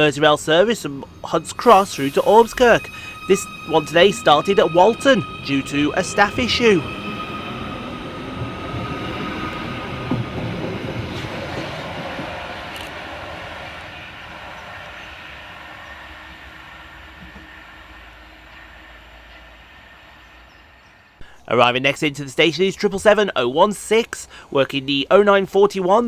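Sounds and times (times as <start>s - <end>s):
electric train departing: 0.0s - 25.5s.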